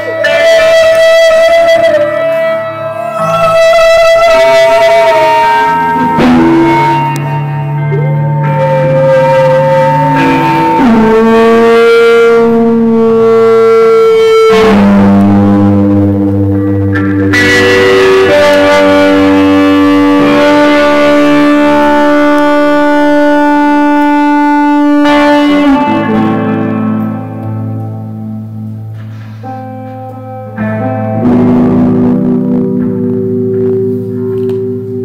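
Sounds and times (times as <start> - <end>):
live band holding chords: 0.0 - 35.0.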